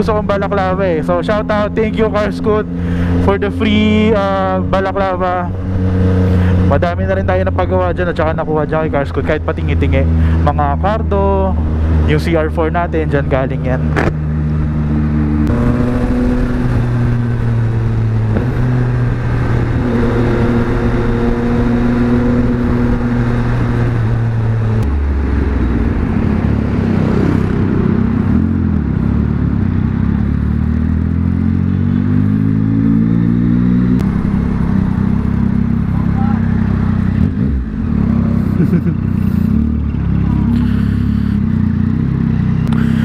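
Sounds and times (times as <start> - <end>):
motorcycle engine: 0.0 - 43.0.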